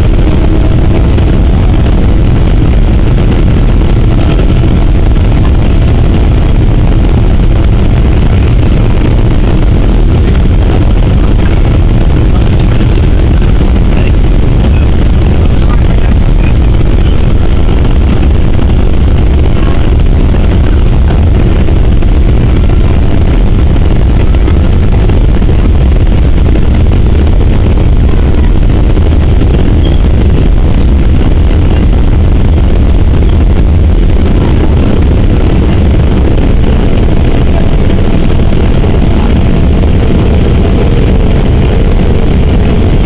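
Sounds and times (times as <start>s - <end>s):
jet engines at takeoff: 0.0s - 43.0s.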